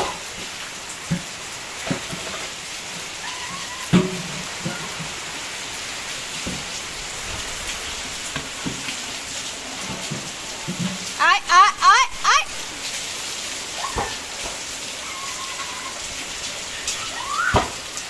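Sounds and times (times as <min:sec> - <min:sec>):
rain knocks: 0:00.0 - 0:18.0
steady rain falling: 0:00.0 - 0:18.0.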